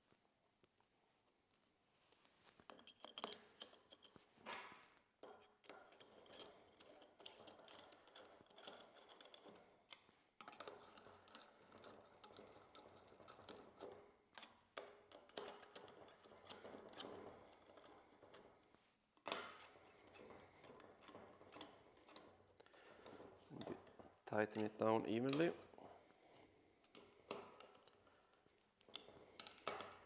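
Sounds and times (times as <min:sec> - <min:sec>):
allen key ticking and scraping: 0:05.2 - 0:25.6, 0:26.2 - 0:30.0.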